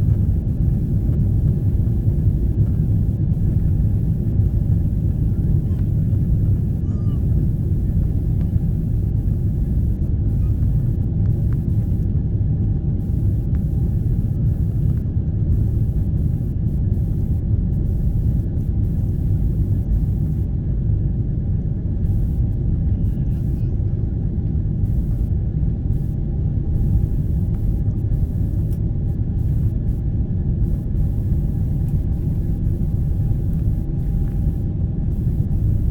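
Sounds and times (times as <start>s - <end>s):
faint steady tones: 0.0s - 12.2s, 12.9s - 20.5s, 22.0s - 23.7s, 24.8s - 35.9s
jet engine and wheel rumble: 0.0s - 35.9s.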